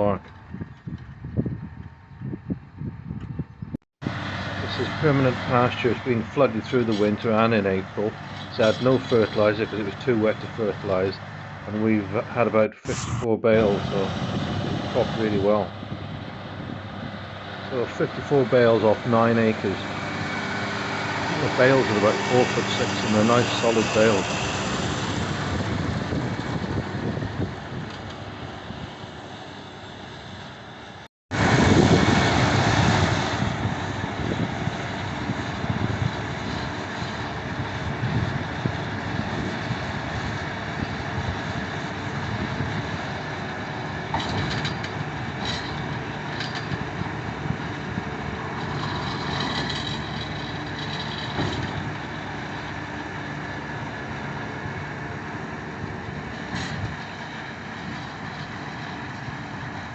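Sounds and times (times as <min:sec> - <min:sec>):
baler machinery droning: 0:00.0 - 0:59.9.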